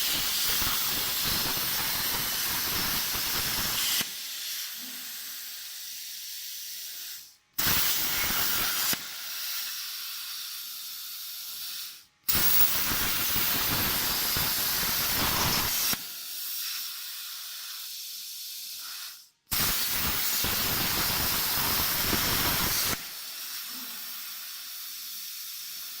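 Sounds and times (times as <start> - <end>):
plasma torch hissing: 0.0 - 26.0.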